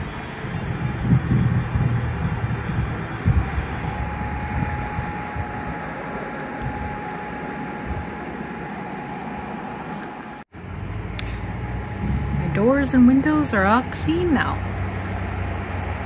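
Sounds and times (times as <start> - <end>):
distant traffic: 0.0 - 16.0
rooftop machinery: 0.0 - 16.0
thin steady whine: 0.0 - 16.0.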